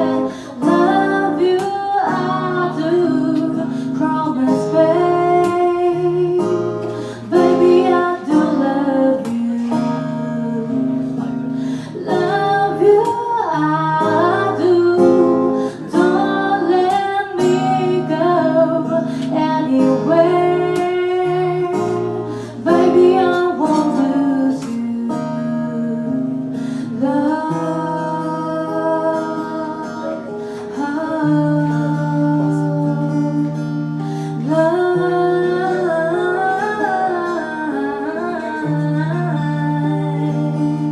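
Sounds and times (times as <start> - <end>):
guitar accompaniment: 0.0 - 40.9
woman singing: 0.0 - 40.9.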